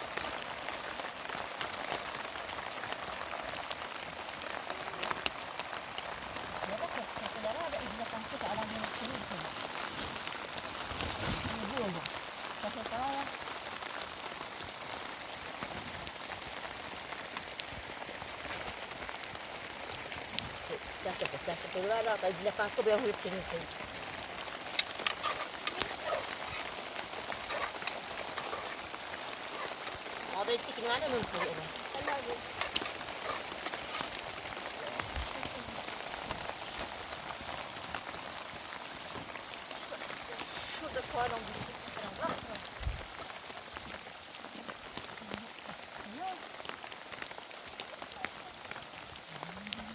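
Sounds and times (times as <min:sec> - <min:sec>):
sharp raindrop ticks: 0:00.0 - 0:49.9
steady rain falling: 0:00.0 - 0:49.9.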